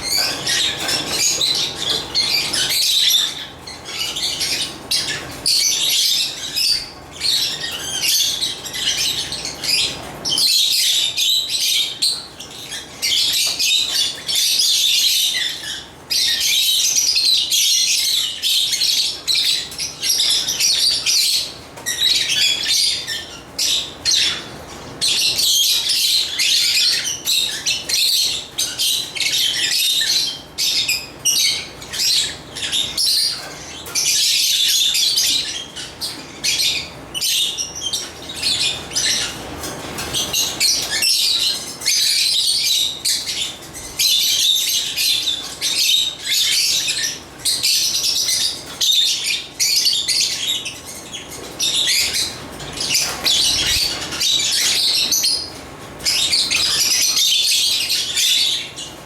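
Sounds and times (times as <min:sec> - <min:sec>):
lovebirds chirping and chattering: 0:00.0 - 0:59.0.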